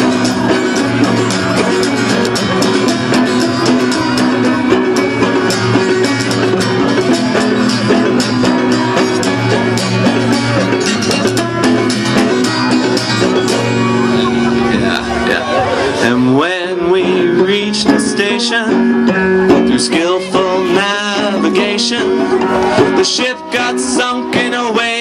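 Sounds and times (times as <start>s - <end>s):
drums keeping a steady beat: 0.0s - 25.0s
strummed guitar: 0.0s - 25.0s.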